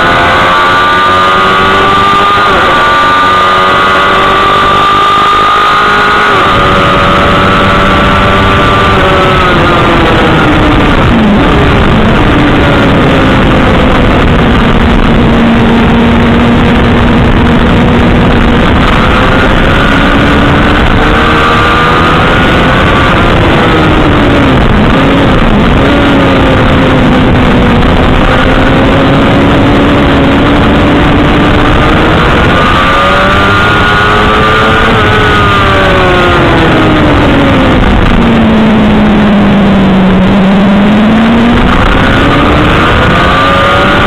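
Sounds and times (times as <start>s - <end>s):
motorcycle engine revving: 0.0s - 44.0s
wind rushing on microphone: 0.0s - 44.0s.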